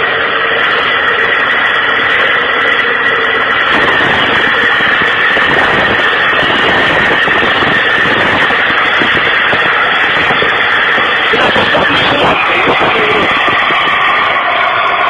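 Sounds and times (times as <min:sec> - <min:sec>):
high-pitched whine: 0:00.0 - 0:15.0
machine engine running: 0:00.0 - 0:15.0.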